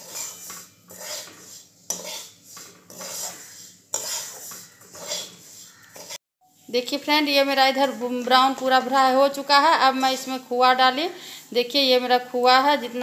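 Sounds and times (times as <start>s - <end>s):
spatula scraping and stirring flour: 0.0s - 13.0s.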